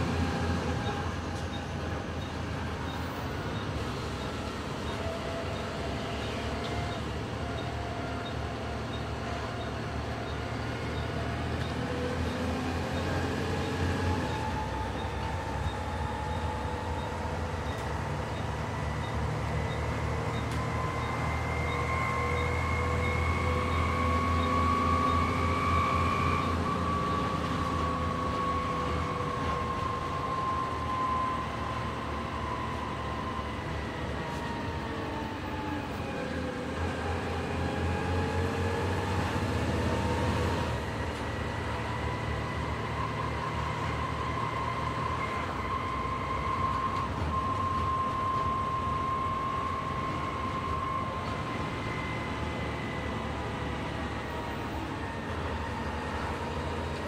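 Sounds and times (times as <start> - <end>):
bus diesel engine under load: 0.0 - 57.0.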